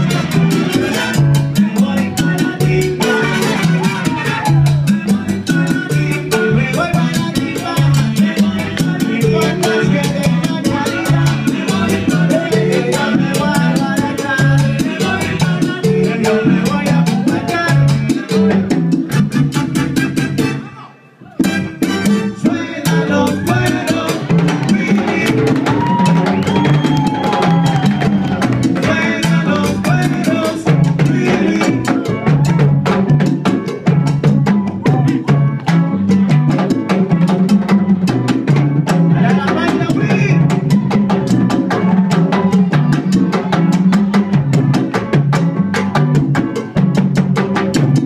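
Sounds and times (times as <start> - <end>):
congas and drums: 0.0 - 48.0
salsa band playing: 0.0 - 48.0.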